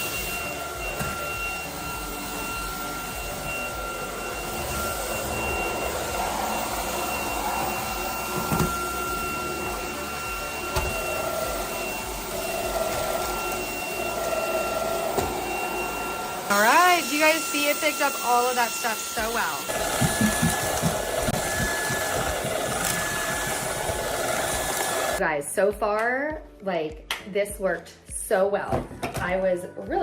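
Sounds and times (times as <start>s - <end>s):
vacuum cleaner motor whine: 0.0s - 25.2s.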